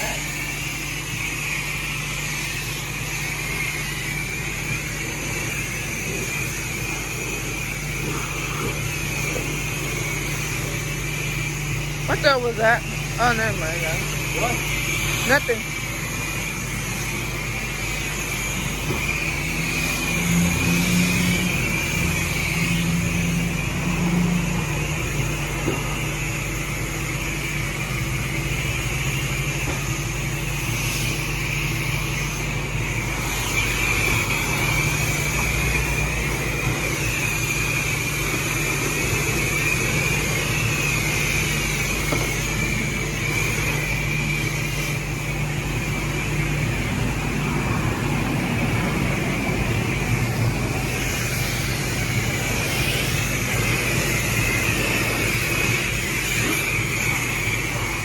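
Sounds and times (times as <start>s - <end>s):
high-pressure spray hiss: 0.0s - 58.0s
washer pump hum: 0.0s - 58.0s.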